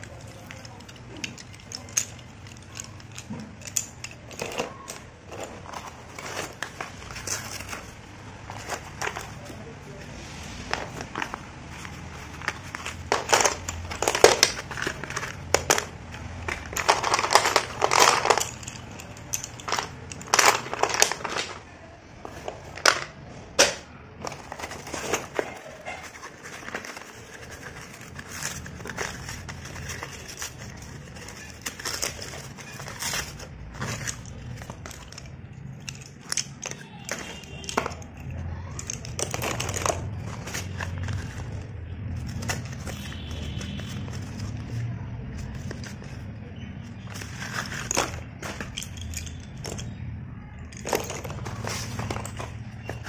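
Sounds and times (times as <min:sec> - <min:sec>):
paper packaging rustling: 0:00.0 - 0:50.0, 0:50.7 - 0:53.0
slate pencils clattering: 0:00.0 - 0:53.0.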